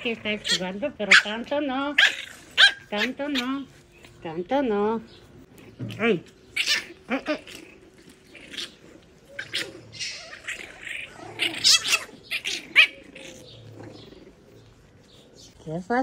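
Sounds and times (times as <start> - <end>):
puppies squealing and yelping: 0.0 - 4.2, 5.2 - 15.5.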